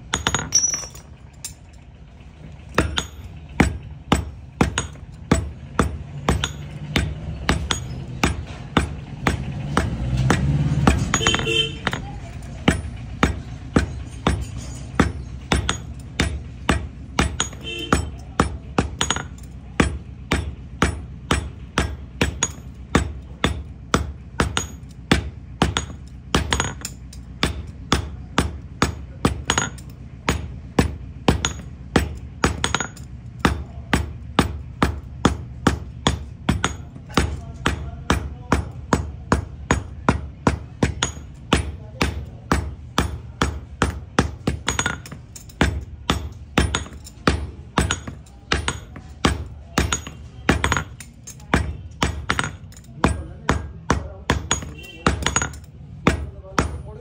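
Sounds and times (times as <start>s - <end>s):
hammer striking metal on anvil: 0.0s - 1.8s, 2.5s - 57.0s.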